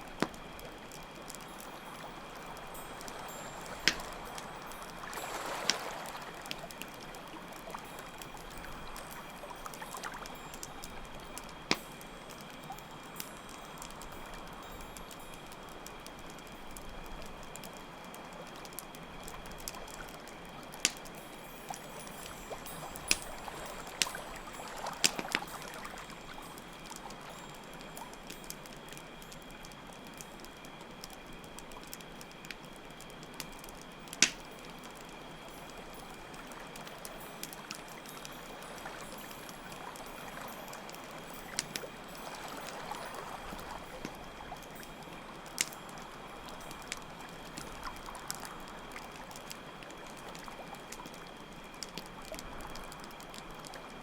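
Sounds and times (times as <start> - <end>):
running water: 0.0 - 15.3, 19.3 - 28.6, 33.9 - 54.0
campfire crackling: 0.0 - 54.0
crickets chirring: 0.0 - 54.0.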